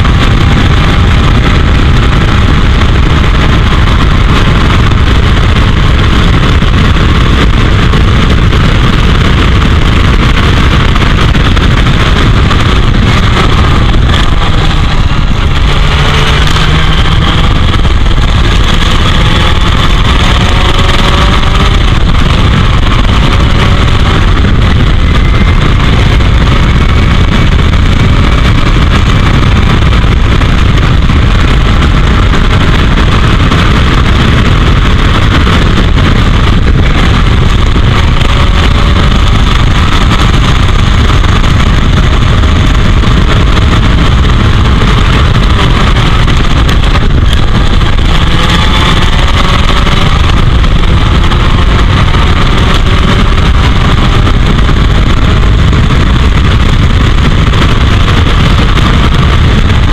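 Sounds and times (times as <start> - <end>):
racing car engine revving: 0.0 - 59.9
wind buffeting microphone: 0.0 - 59.9.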